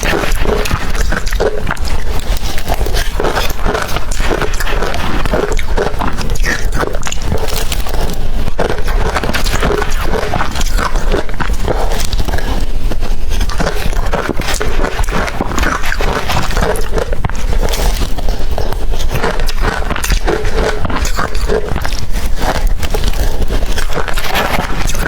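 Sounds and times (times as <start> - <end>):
crunching ice: 0.0 - 25.0.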